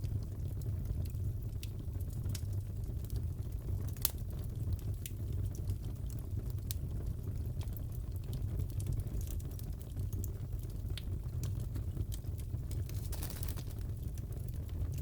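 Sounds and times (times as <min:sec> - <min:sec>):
fire rumbling: 0:00.0 - 0:15.0
wood fire popping and snapping: 0:00.0 - 0:15.0.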